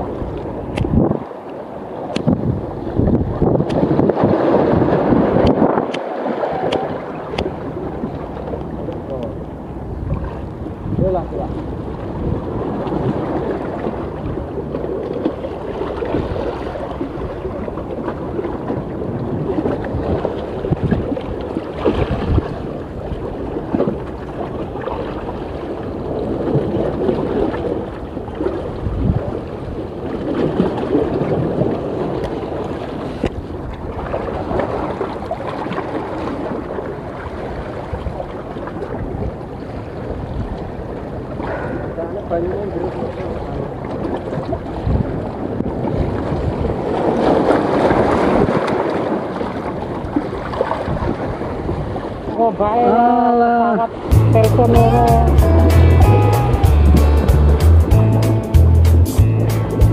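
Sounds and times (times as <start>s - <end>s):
sea waves washing on rocks: 0.0s - 56.0s
wind buffeting microphone: 0.0s - 57.6s.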